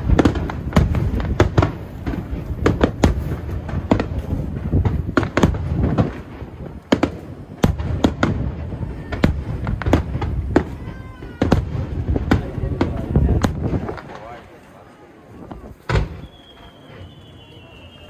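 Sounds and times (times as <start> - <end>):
fireworks bangs: 0.0 - 14.6, 15.3 - 18.0.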